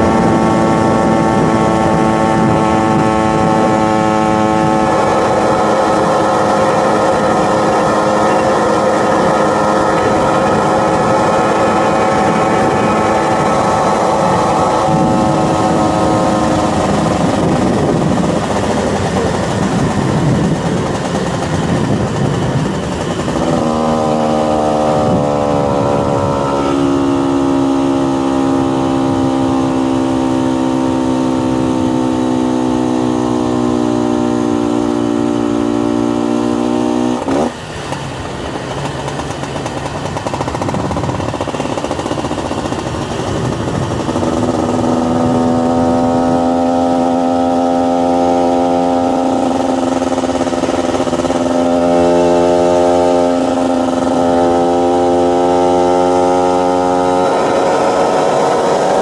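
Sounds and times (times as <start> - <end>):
wind rush: 0.0 - 33.8, 36.9 - 59.0
motorcycle engine: 0.0 - 59.0.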